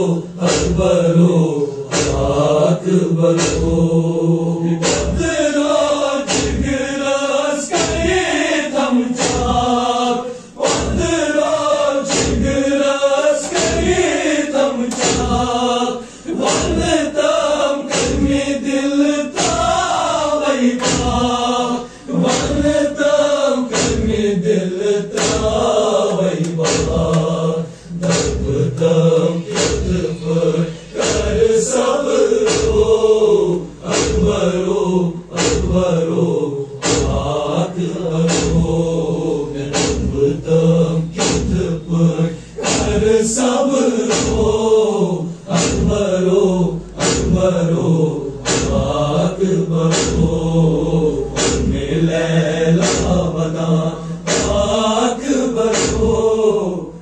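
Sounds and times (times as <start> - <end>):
men chanting in unison: 0.0 - 57.0
steady beat of sharp strikes: 0.0 - 57.0.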